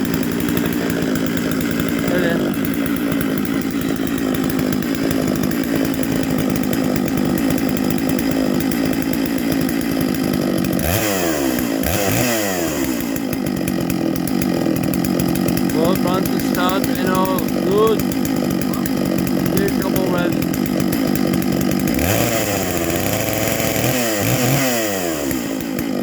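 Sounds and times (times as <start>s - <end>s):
chainsaw idling and revving: 0.0s - 26.0s.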